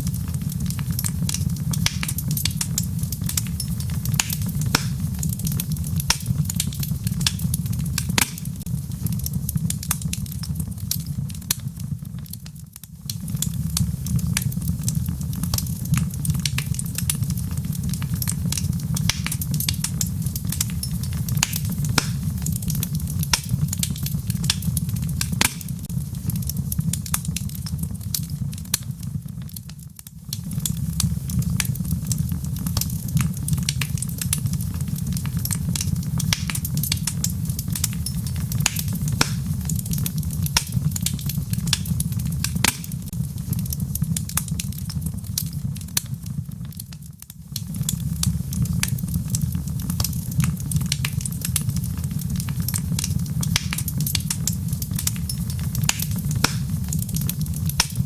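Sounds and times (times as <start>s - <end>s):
low fire rumble: 0.0s - 58.0s
wood logs crackling in fireplace: 0.0s - 58.0s.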